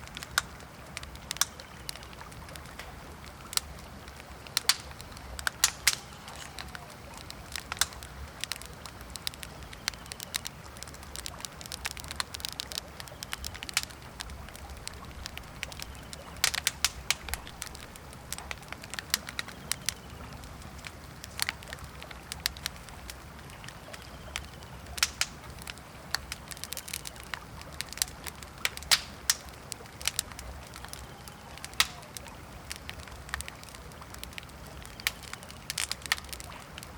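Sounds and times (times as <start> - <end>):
low background rush: 0.0 - 31.0
campfire crackling: 0.0 - 36.9
sharp pops of fire: 0.0 - 36.9.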